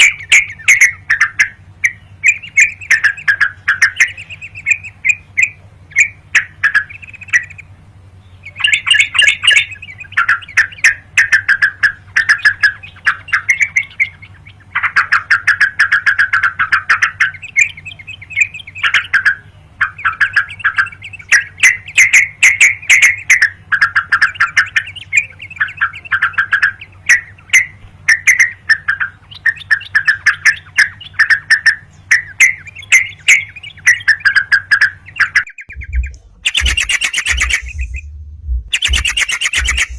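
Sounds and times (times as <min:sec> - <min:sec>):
bird singing bubbly chatter: 0:00.0 - 0:39.9
faint steady low hum: 0:00.0 - 0:39.9.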